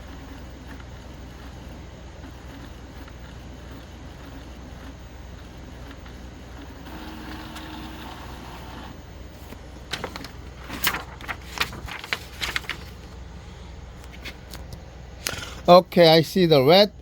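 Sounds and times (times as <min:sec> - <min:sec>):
printer motor whirring: 0:00.0 - 0:14.9.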